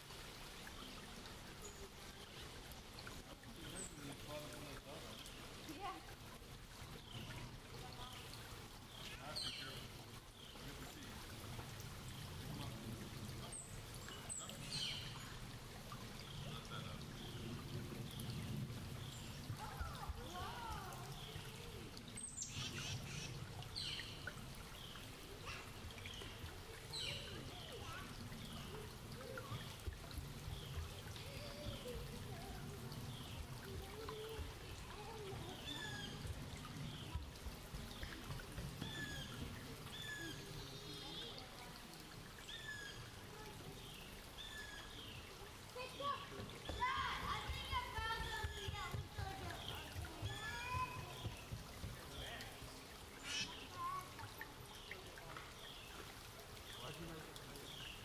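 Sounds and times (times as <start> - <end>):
creek babbling over rocks: 0.0 - 58.0.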